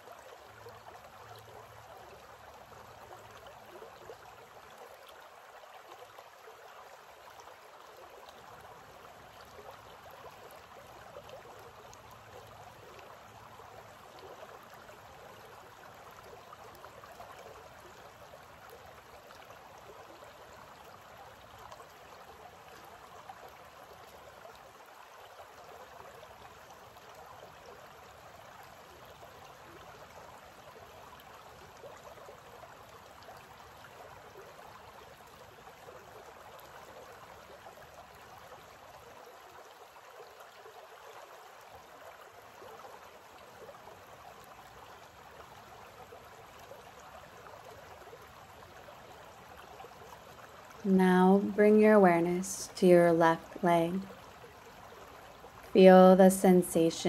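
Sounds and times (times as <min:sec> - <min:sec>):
creek water rushing over stones: 0:00.0 - 0:56.2.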